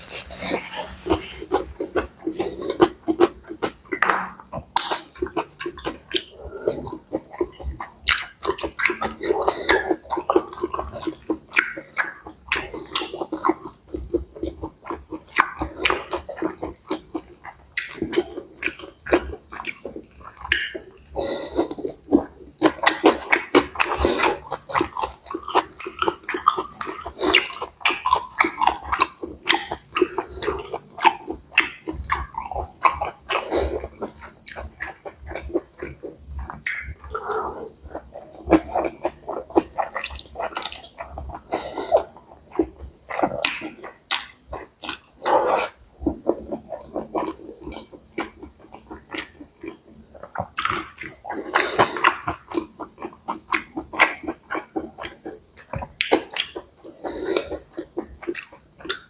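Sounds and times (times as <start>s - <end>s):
wet chewing mouth sounds: 0.0s - 59.0s.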